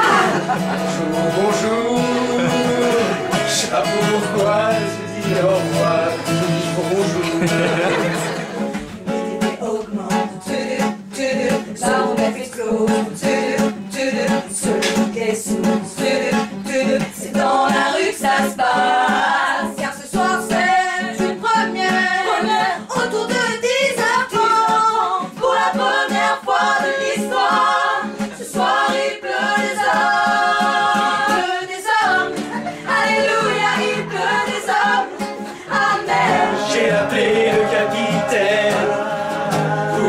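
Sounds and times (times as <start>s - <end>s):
group singing in harmony: 0.0s - 40.0s.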